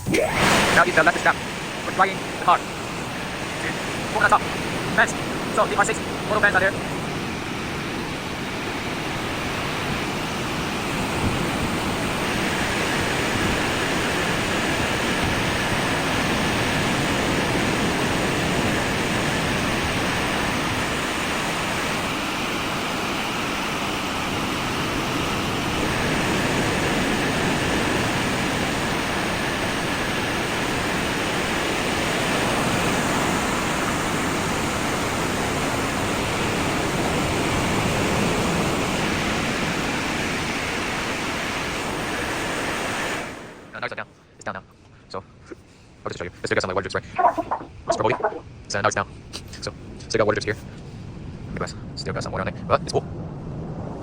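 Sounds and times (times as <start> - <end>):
car wash drying fans blowing: 0.0 - 43.6.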